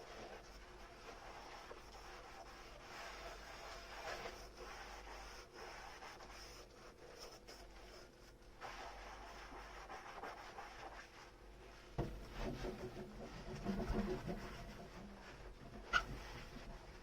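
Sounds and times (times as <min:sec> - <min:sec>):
sponge scrubbing dishes: 0:00.0 - 0:17.0.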